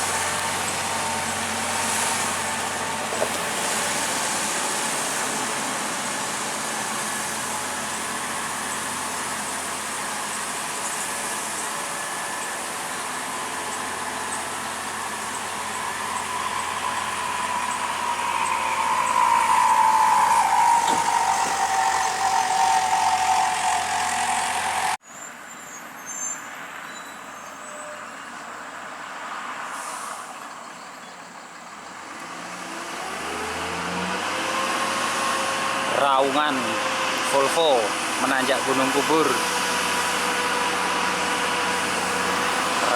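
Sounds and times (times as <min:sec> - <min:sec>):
diesel truck approaching under load: 0:00.0 - 0:25.0, 0:25.8 - 0:42.9
heavy diesel vehicle passing: 0:00.0 - 0:25.0, 0:28.6 - 0:42.9.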